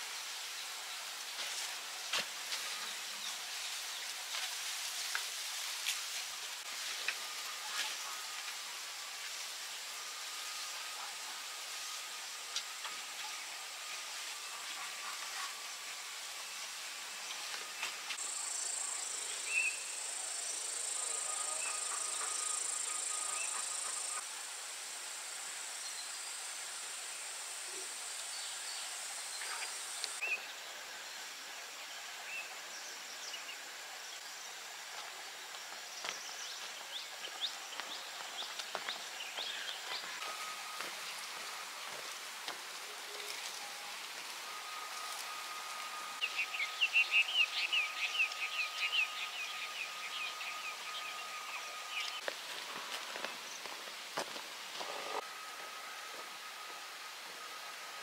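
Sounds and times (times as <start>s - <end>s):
high insect buzz: 0.0s - 58.0s
outdoor hiss: 0.0s - 58.0s.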